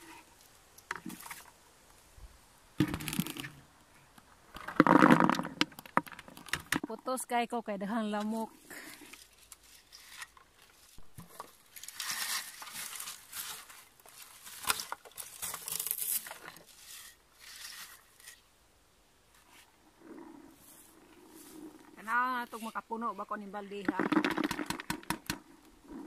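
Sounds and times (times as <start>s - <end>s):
bushes rustling and crackling: 0.0s - 18.6s, 19.2s - 26.0s.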